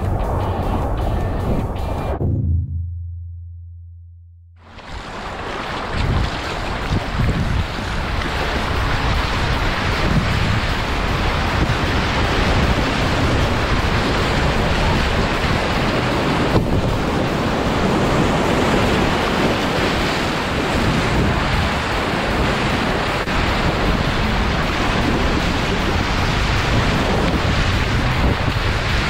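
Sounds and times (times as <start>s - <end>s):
whitewater rapids rushing: 4.7s - 29.0s
wind buffeting microphone: 4.7s - 29.0s.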